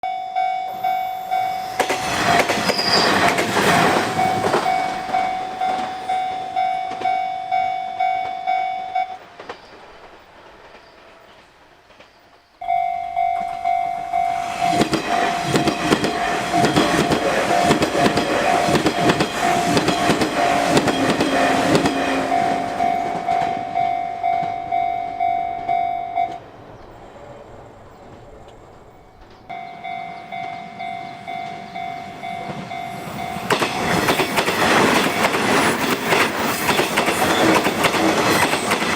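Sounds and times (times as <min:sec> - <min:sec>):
railroad crossing bell clanging: 0:00.0 - 0:09.3, 0:12.6 - 0:26.6, 0:28.5 - 0:38.9
train wheels rumbling and clattering: 0:01.2 - 0:08.5, 0:09.1 - 0:38.9.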